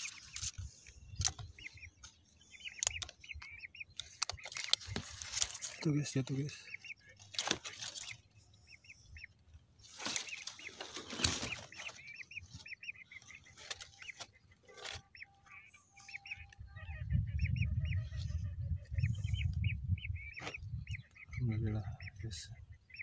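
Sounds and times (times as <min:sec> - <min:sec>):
ducks whistling: 0:00.0 - 0:23.0.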